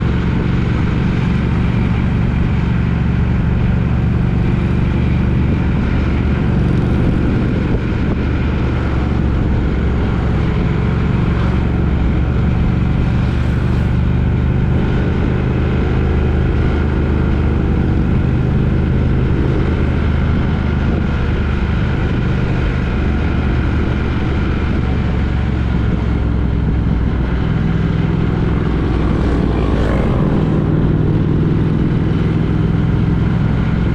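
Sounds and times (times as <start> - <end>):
road and wind noise: 0.0 - 33.9
vehicle engine running steadily: 0.0 - 33.9.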